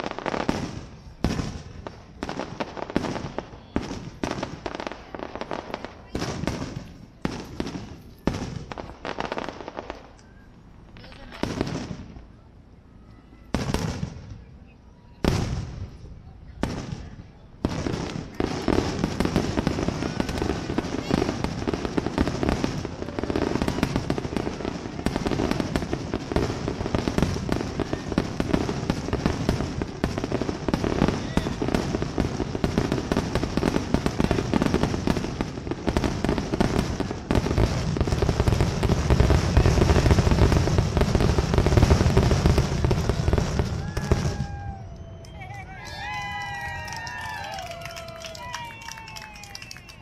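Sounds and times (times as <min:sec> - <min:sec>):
fireworks bursting and crackling: 0:00.0 - 0:12.5, 0:13.4 - 0:50.0.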